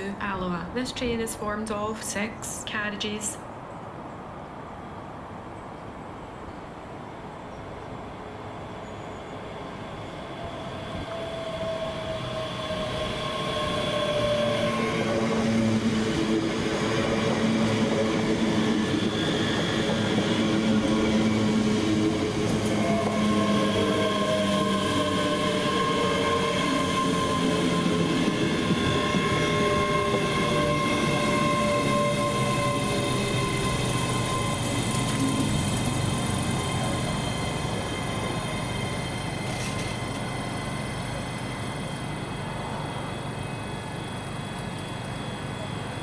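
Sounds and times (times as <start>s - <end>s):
passenger train arriving: 0.0s - 46.0s
train brakes whining: 8.6s - 46.0s.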